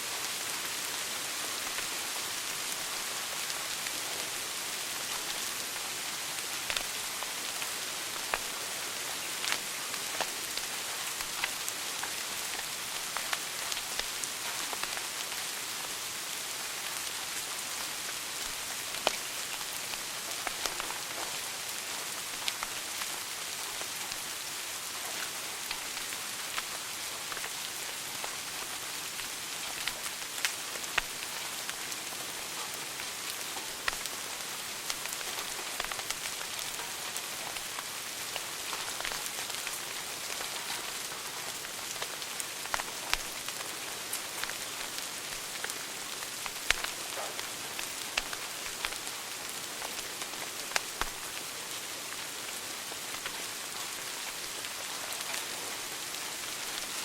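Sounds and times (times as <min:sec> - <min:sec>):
wood fire crackling: 0:06.6 - 0:57.0.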